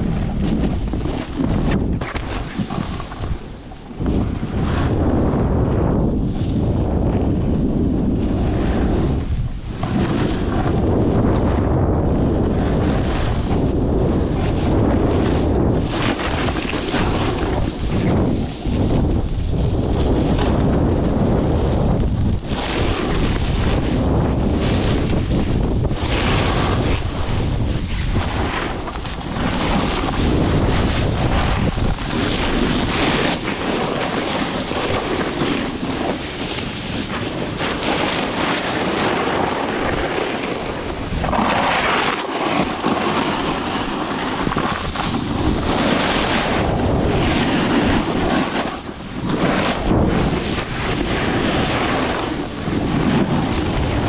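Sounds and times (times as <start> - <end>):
snowboard edges scraping snow: 0.0 - 54.0
wind buffeting microphone: 0.0 - 54.0.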